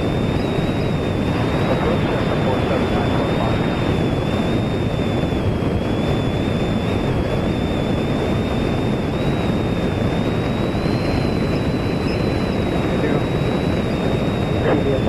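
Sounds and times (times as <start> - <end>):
jet engines with high whine: 0.0 - 15.0
wind on microphone: 0.0 - 15.0.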